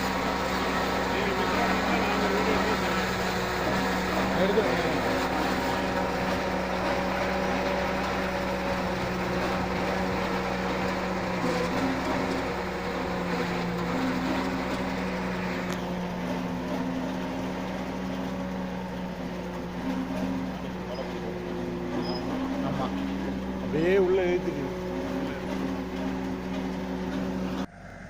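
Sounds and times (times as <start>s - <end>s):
harvester mechanical hum: 0.0s - 28.0s
tractor engine under load: 0.0s - 28.0s.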